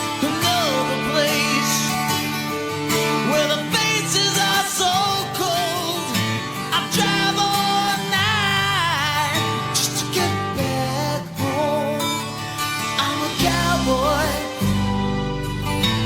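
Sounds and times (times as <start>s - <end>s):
person singing: 0.0s - 2.3s, 3.0s - 16.0s
acoustic guitar: 0.0s - 16.0s.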